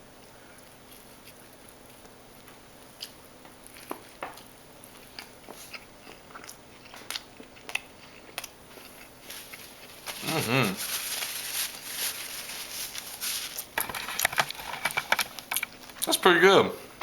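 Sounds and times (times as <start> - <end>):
person chewing food: 0.5 - 16.1.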